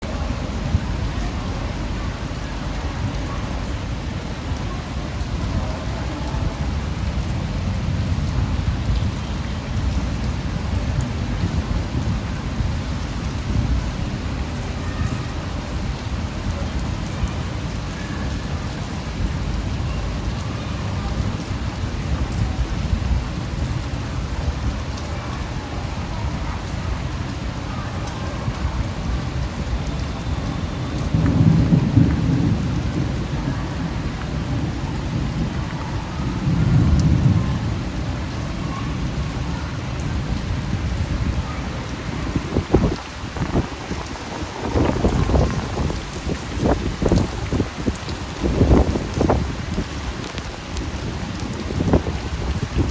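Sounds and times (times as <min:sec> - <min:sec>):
rain falling on a street: 0:00.0 - 0:52.9.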